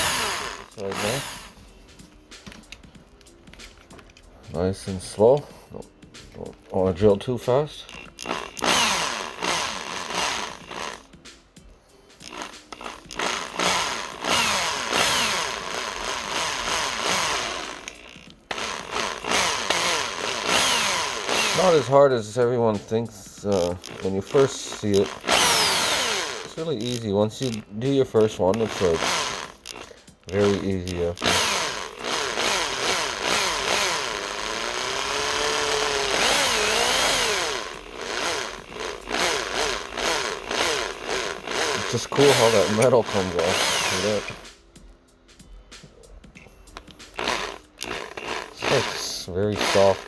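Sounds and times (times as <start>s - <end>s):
power drill drilling metal: 0.0s - 1.6s, 7.8s - 11.2s, 12.2s - 44.6s, 46.7s - 50.0s.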